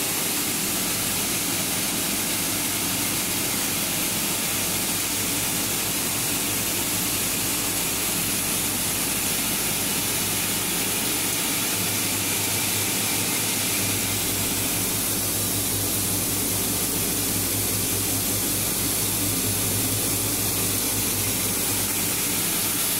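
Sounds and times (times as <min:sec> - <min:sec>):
machine whirring: 0:00.0 - 0:22.9.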